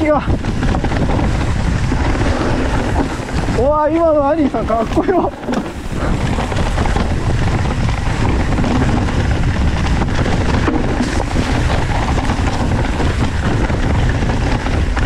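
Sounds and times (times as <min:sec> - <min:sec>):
bike knocks over bumps: 0:00.0 - 0:15.0
bike tyre noise and rattle: 0:00.0 - 0:15.0
wind rumble on microphone: 0:00.0 - 0:15.0.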